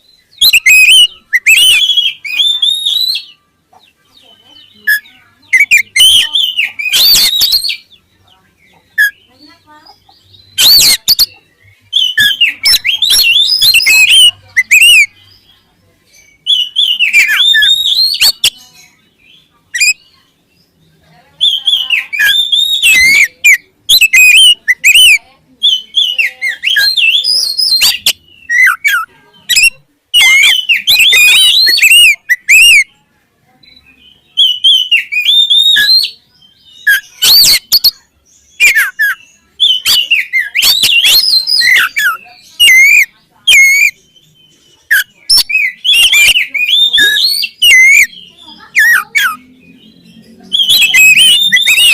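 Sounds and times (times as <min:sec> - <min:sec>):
bird singing whistled notes: 0:00.0 - 0:03.5, 0:04.2 - 0:08.1, 0:10.3 - 0:32.9, 0:33.6 - 0:51.9.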